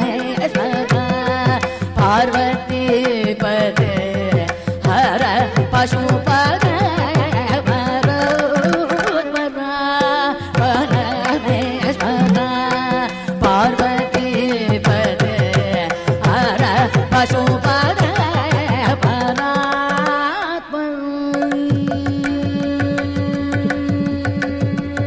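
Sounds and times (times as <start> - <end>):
mridangam drum strokes: 0.0 - 25.0.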